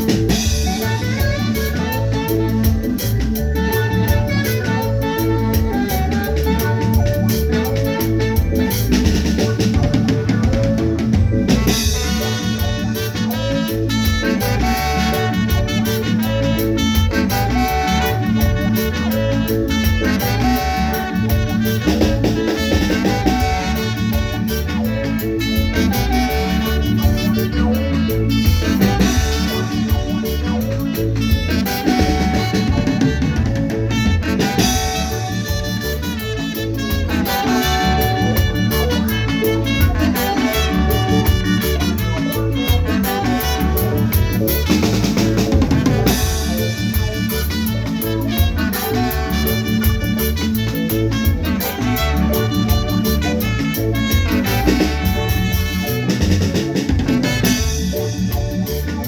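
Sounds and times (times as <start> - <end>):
live band playing dance tune: 0.0 - 59.0.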